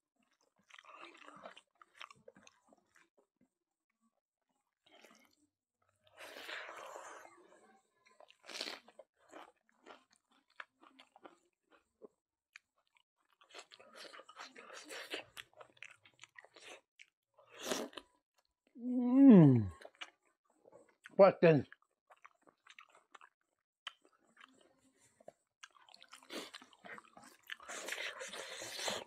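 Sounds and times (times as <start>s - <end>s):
close-miked chewing: 0.1s - 3.3s, 4.8s - 18.5s, 19.6s - 29.0s.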